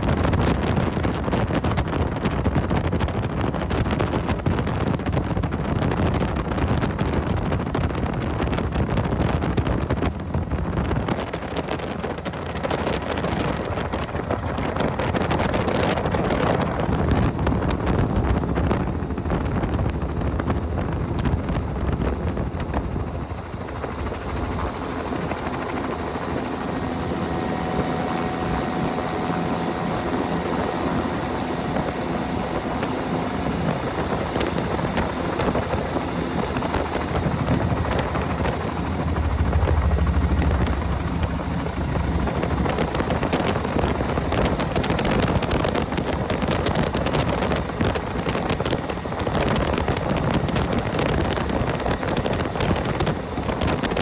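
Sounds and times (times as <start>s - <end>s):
helicopter rotor and engine: 0.0s - 54.0s
wind rushing over microphone: 0.0s - 54.0s.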